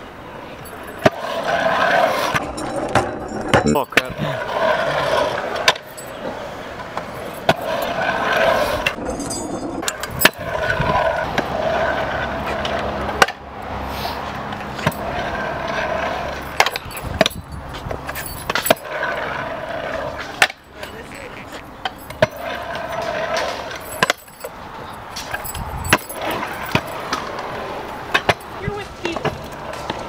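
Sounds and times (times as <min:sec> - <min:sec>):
scooter clacking on concrete: 0:00.0 - 0:30.0
scooter wheels rolling on concrete: 0:00.0 - 0:30.0.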